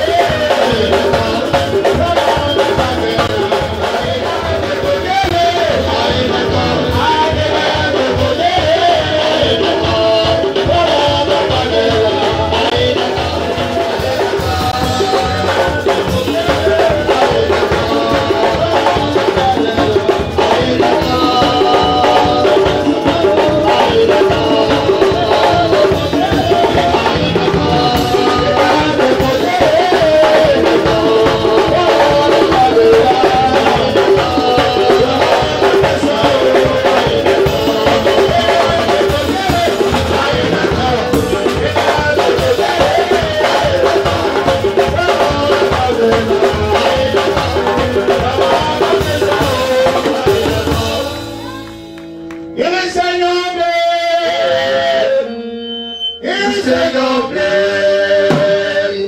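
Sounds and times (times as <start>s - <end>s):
drums and hand percussion: 0.0s - 54.1s, 56.2s - 59.0s
voices singing through microphone: 0.0s - 59.0s.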